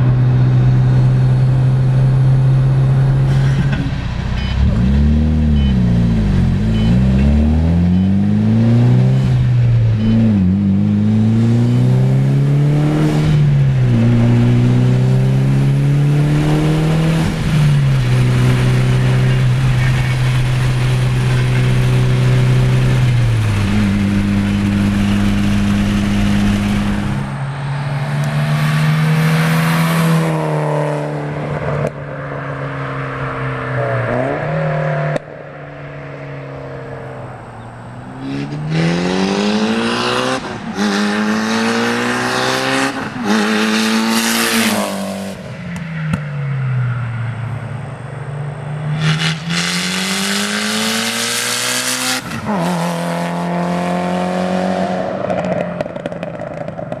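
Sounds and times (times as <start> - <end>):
turbocharged car full-throttle passing: 0.0 - 57.0.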